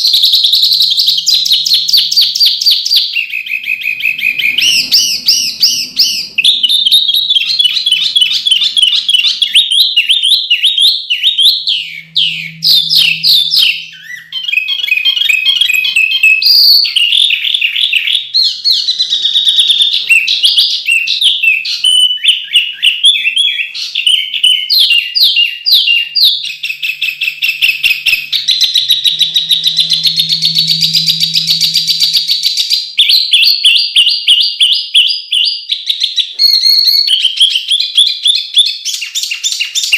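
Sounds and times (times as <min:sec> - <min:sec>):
songbird singing: 0:00.0 - 0:34.8.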